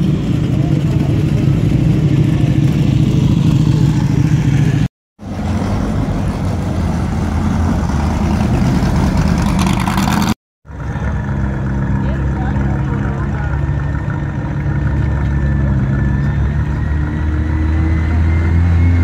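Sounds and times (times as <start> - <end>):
car engine passing: 3.1 - 19.0
race car engine passing: 3.1 - 19.0.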